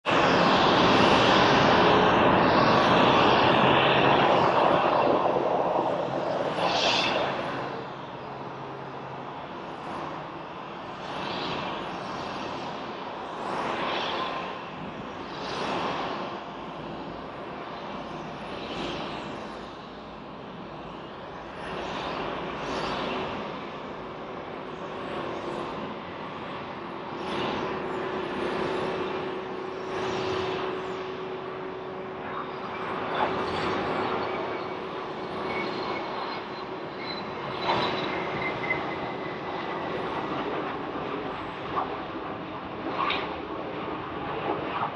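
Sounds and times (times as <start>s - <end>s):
distant jet engine rushing: 0.0s - 44.9s
steady whine: 0.0s - 44.9s.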